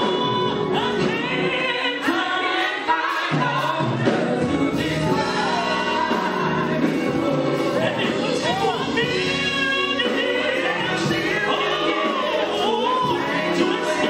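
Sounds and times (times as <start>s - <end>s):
backing singers: 0.0s - 14.0s
gospel lead singer: 0.0s - 14.0s.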